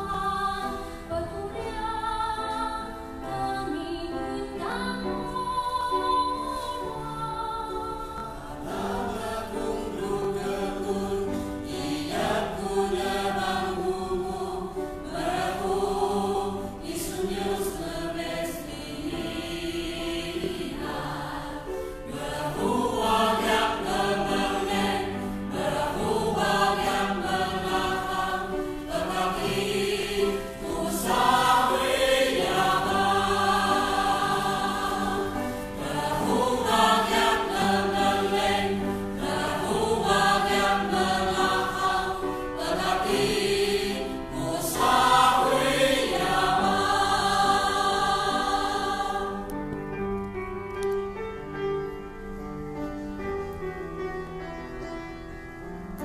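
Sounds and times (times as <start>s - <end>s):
choir singing a hymn: 0.0s - 49.8s.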